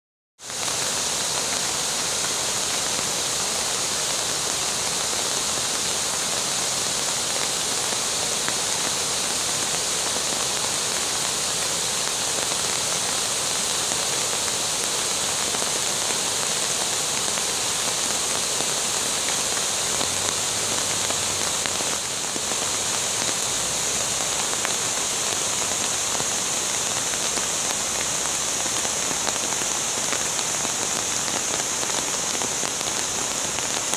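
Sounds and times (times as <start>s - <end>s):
water rushing over cascades: 0.4s - 33.9s.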